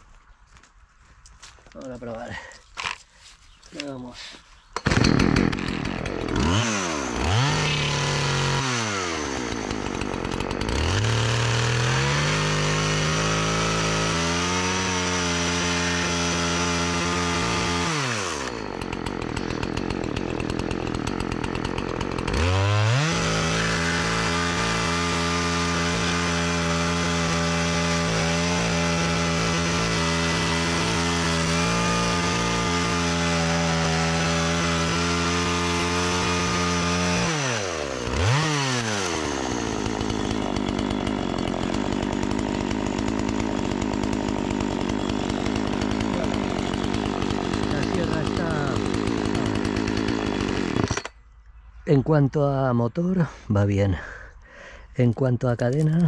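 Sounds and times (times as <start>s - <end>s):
chainsaw cutting wood: 1.8s - 3.2s, 4.7s - 51.3s, 53.9s - 56.0s.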